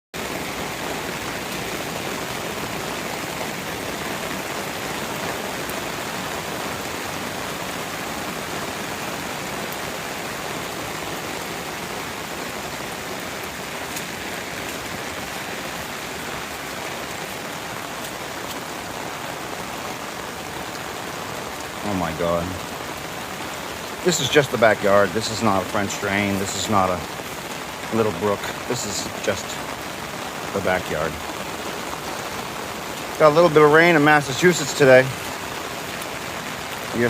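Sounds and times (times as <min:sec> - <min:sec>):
rain falling on lawn: 0:00.1 - 0:37.0
water running across ground: 0:00.2 - 0:37.0.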